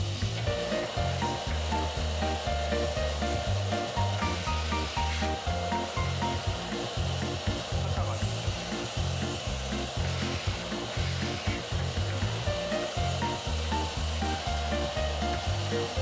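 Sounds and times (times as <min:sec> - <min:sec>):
music with repeating bass beat: 0:00.0 - 0:16.0.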